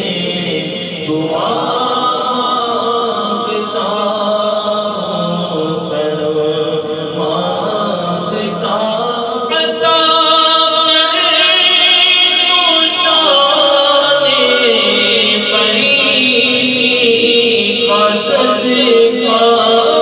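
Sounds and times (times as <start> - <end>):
man singing into microphone: 0.0 - 20.0.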